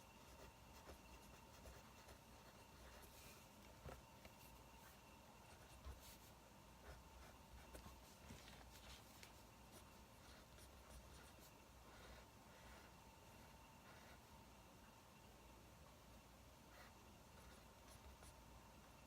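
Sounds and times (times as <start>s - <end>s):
low steady hum: 0.0s - 19.0s
pencil scratching on paper: 0.2s - 14.2s, 16.7s - 18.4s.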